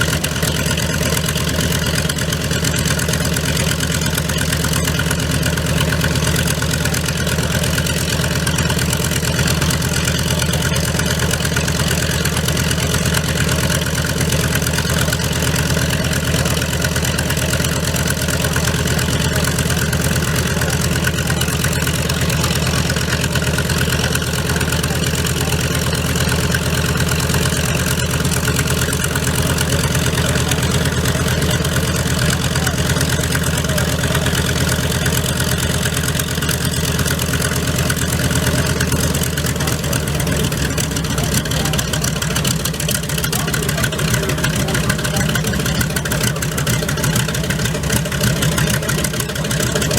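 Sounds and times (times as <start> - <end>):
piston aircraft engine running: 0.0 - 49.9.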